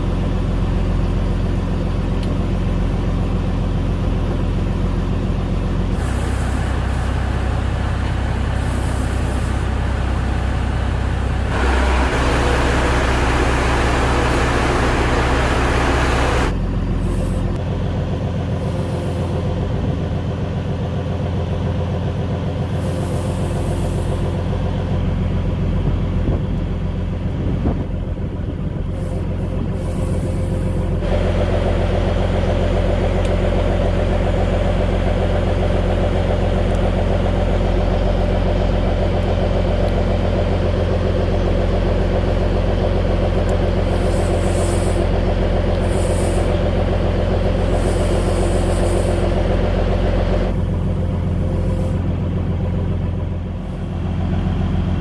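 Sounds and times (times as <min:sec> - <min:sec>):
boat diesel engine droning: 0:00.0 - 0:55.0.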